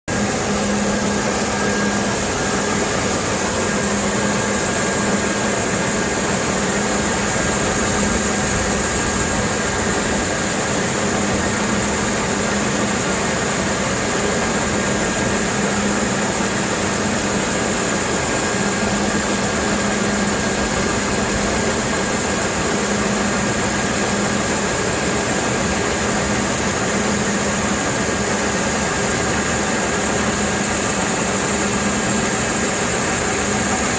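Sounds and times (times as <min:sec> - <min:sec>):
engine-driven pump running: 0:00.1 - 0:33.9.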